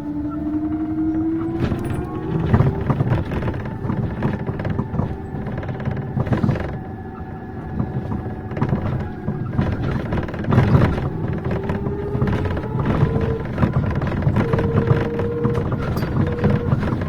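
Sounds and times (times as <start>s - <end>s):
bus road rumble: 0.0s - 17.0s
rattles and knocks: 0.5s - 17.0s.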